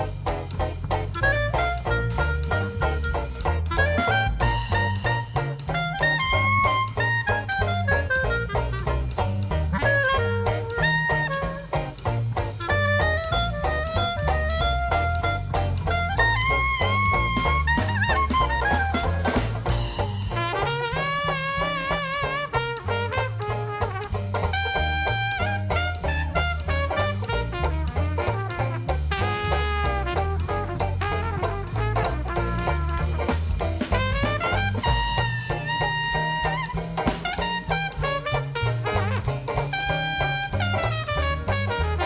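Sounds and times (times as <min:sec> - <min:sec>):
jazz band playing swing: 0:00.0 - 0:42.0
steady drum beat: 0:00.0 - 0:42.0
walking bass line: 0:00.0 - 0:42.0
brass horns: 0:01.0 - 0:12.0, 0:12.6 - 0:42.0
trumpet with vibrato: 0:03.7 - 0:11.8, 0:13.0 - 0:42.0.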